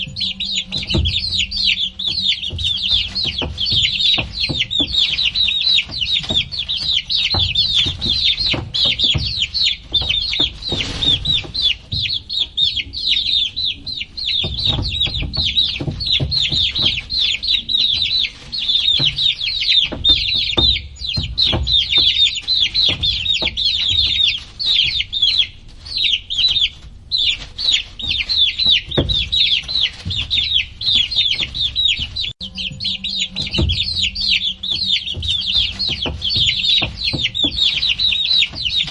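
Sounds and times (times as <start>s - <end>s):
baby chicks peeping: 0.0s - 38.9s
low knocks and bumps: 0.0s - 38.9s.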